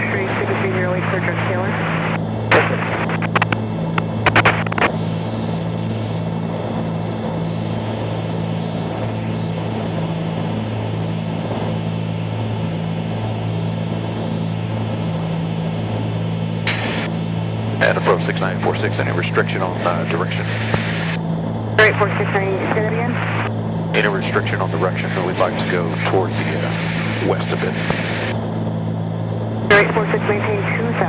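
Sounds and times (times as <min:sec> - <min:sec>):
twin propeller engine cabin drone: 0:00.0 - 0:31.0.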